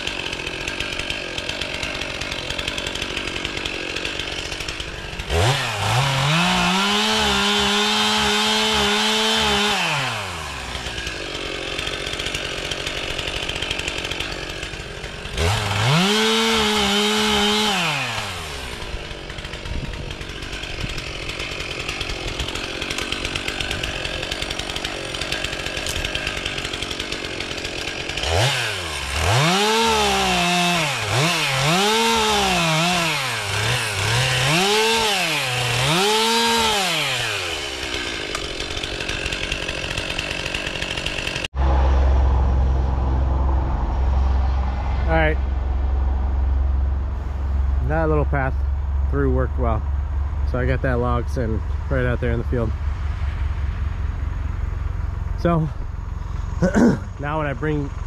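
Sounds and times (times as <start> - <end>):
chainsaw cutting log: 0.0 - 42.4, 47.0 - 58.0.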